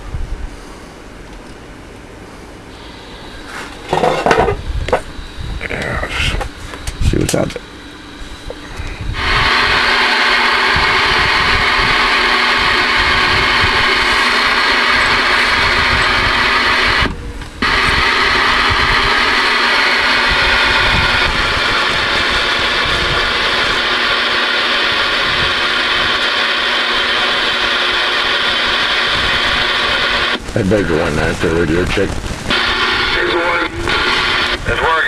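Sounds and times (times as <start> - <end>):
low hum: 0.0 - 35.0
radio static hiss: 2.1 - 35.0.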